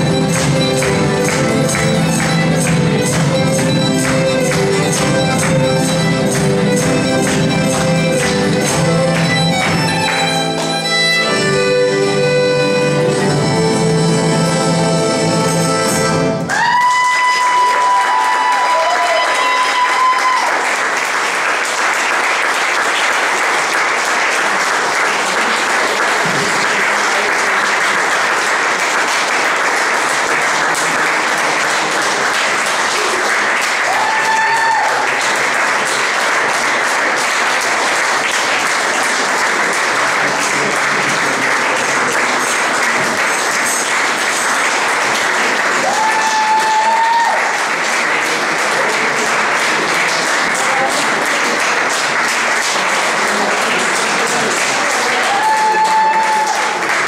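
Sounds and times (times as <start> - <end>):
audience applauding: 0.0 - 14.2, 15.7 - 57.0.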